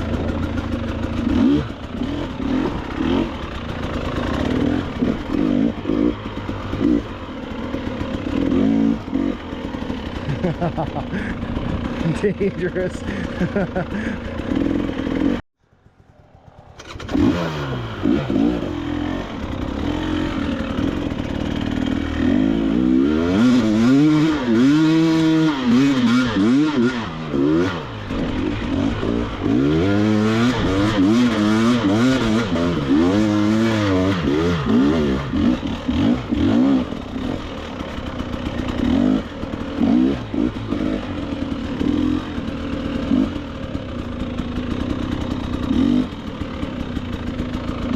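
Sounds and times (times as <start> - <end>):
clatter: 0.0 - 12.3, 18.2 - 47.9
dirt bike engine revving: 0.0 - 15.4, 16.2 - 47.9.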